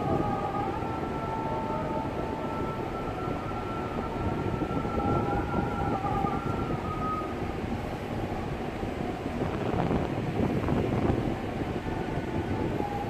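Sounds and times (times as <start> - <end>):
ferry engine running: 0.0 - 13.0
wind rumbling on microphone: 0.0 - 13.0.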